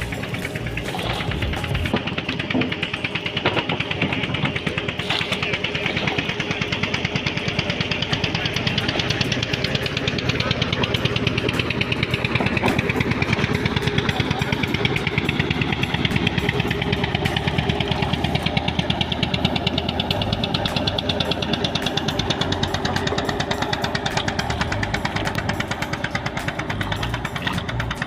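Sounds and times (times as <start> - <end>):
engine running with knocking pulse: 0.0 - 28.0.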